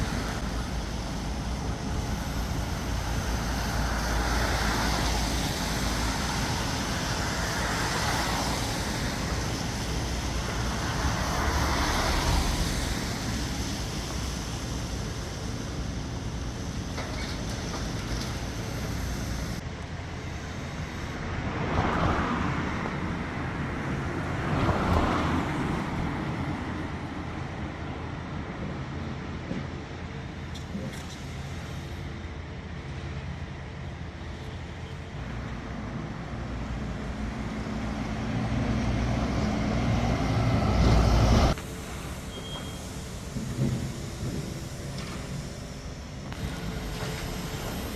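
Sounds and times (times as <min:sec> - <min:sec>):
vehicles passing: 0:00.0 - 0:27.6, 0:34.5 - 0:47.9
road traffic rumbling: 0:00.0 - 0:47.9.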